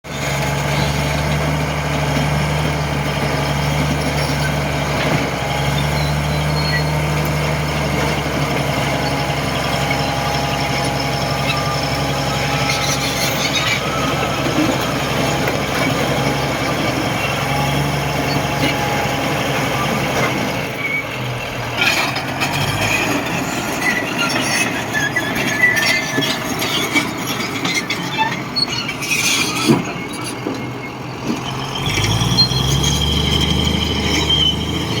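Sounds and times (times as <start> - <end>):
bulldozer diesel engine running: 0.0 - 35.0
metallic squeals and clanks: 0.1 - 35.0.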